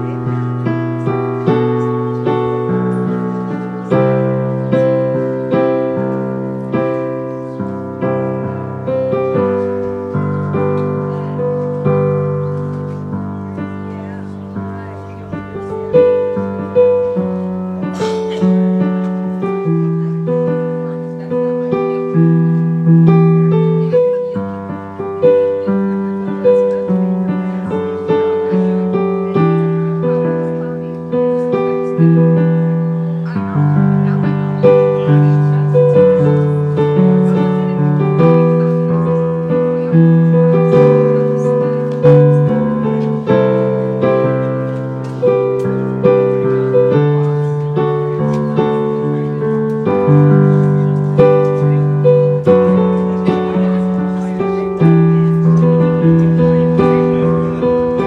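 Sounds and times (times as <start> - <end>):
electric keyboard piano piece: 0.0 - 58.0.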